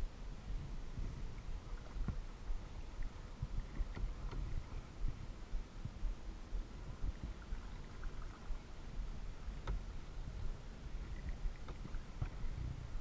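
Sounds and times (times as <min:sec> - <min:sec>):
low uneven microphone rumbling: 0:00.0 - 0:13.0
paddling in water: 0:00.0 - 0:13.0.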